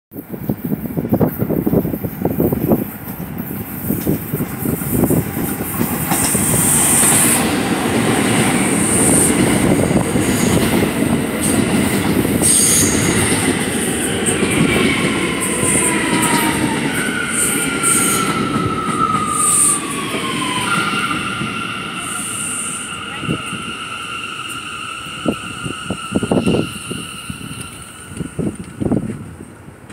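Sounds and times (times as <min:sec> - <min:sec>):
train wheels rumbling on rail: 0:00.1 - 0:29.9
falling whine of train braking: 0:03.4 - 0:29.2.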